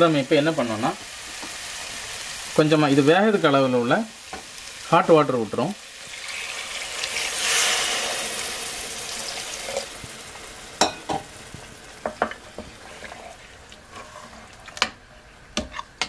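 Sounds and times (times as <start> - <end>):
water hissing in hot pan: 0.0 - 13.8.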